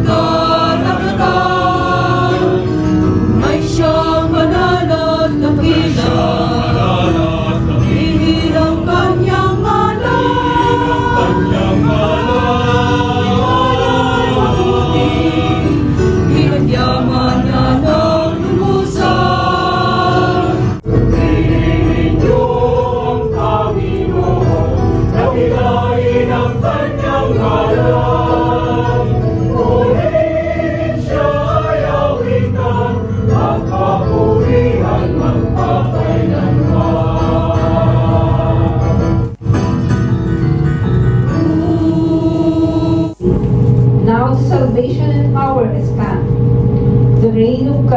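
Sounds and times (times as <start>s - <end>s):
choir singing: 0.0s - 39.4s, 41.2s - 43.4s.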